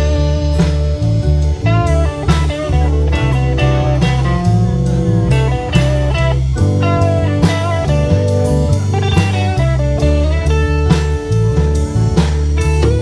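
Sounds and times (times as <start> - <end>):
bending guitar lead line: 0.0 - 13.0
rock band playing: 0.0 - 13.0.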